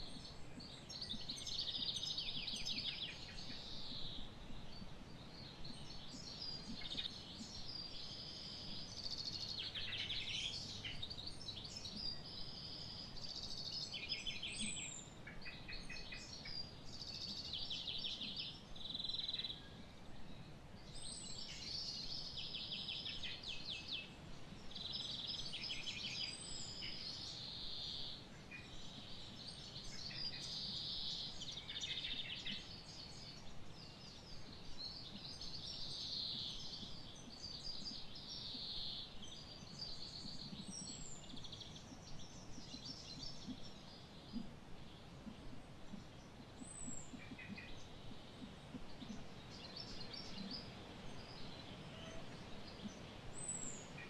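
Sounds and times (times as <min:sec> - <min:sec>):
faint background noise: 0:00.0 - 0:54.0
small birds chirping: 0:00.0 - 0:54.0.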